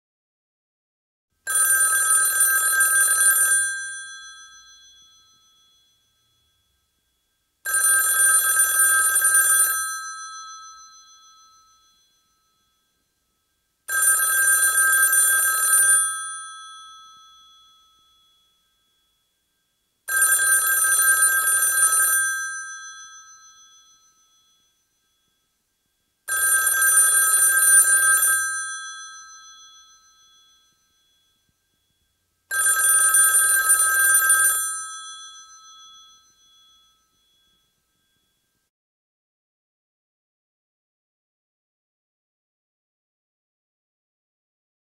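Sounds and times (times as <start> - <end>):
rotary telephone bell ringing: 1.5 - 7.0, 7.6 - 38.7.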